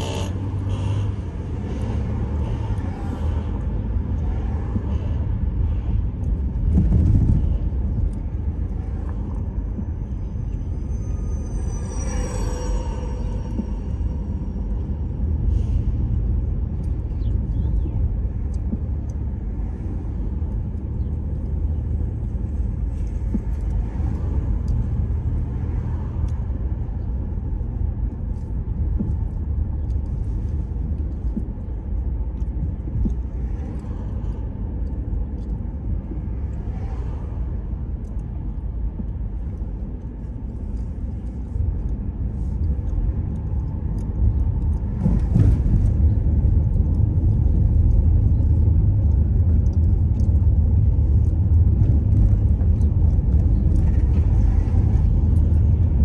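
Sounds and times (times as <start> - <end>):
car engine rumble: 0.0 - 56.0.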